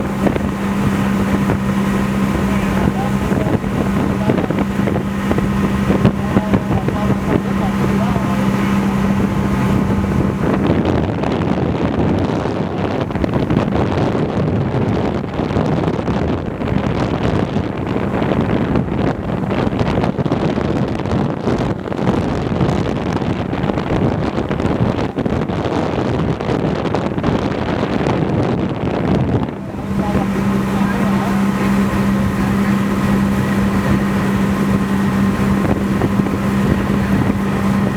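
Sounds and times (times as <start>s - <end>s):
speedboat engine running: 0.0s - 37.9s
wind buffeting microphone: 0.0s - 37.9s.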